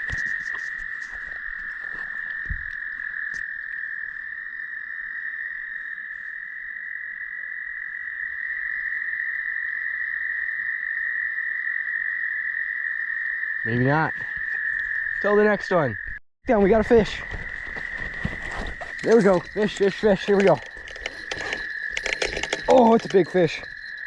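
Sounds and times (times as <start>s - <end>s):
frogs calling: 0.0s - 24.0s.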